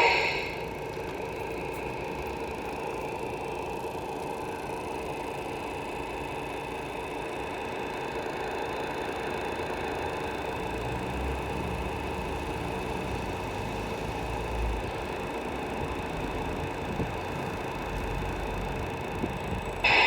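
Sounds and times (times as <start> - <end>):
model truck drive whine: 0.0 - 20.0.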